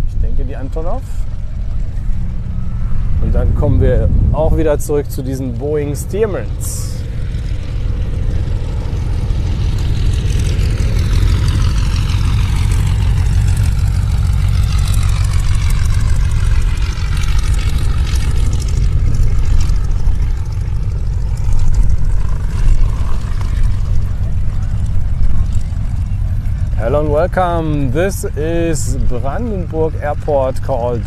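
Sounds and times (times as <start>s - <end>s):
radial aircraft engine passing: 0.0s - 31.0s
wind rumble on microphone: 0.0s - 31.0s.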